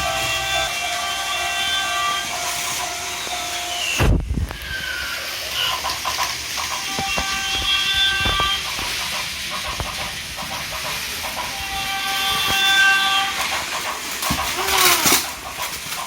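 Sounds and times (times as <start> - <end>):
toy trains whirring and clicking: 0.0 - 16.0.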